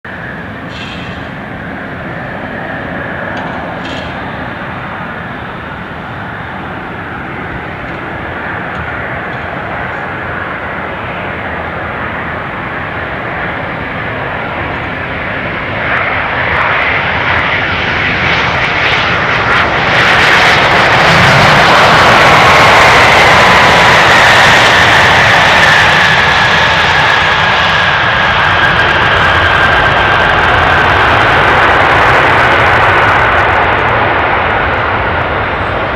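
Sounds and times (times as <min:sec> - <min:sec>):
jet airliner flying past: 0:00.1 - 0:35.9.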